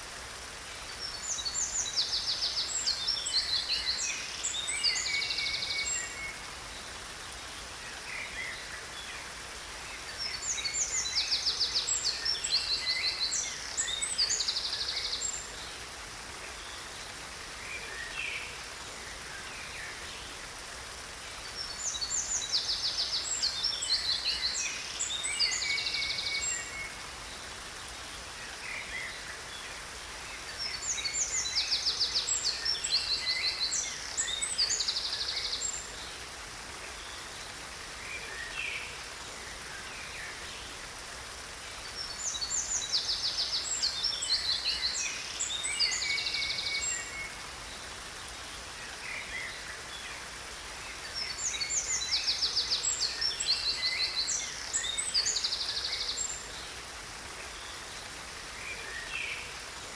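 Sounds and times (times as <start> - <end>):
falling water rushing: 0.0 - 59.9.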